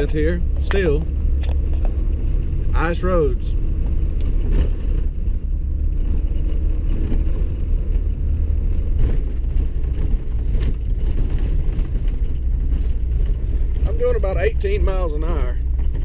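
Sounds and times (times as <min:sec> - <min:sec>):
vehicle rumble on icy road: 0:00.0 - 0:16.0.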